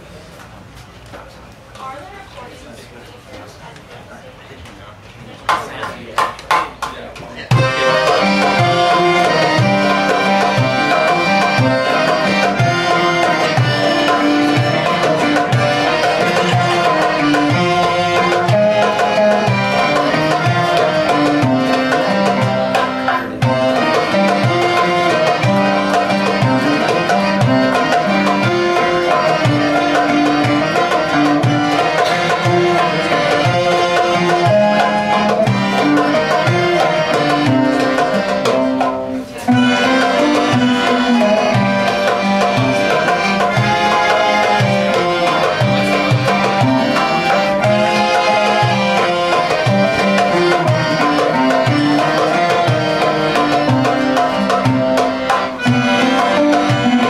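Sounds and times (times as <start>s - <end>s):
hand drum steady rhythm: 5.4s - 57.0s
oud: 7.5s - 57.0s
piano accordion: 7.5s - 57.0s.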